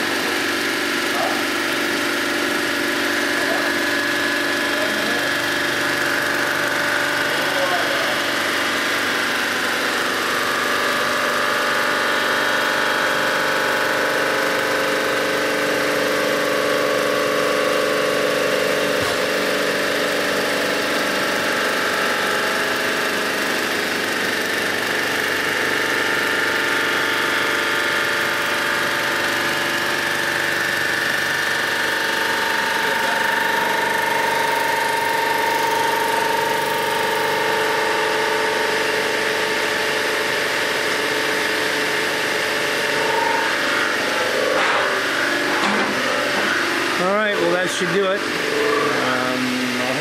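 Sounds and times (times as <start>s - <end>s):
resurfacing machine humming: 0.0s - 50.0s.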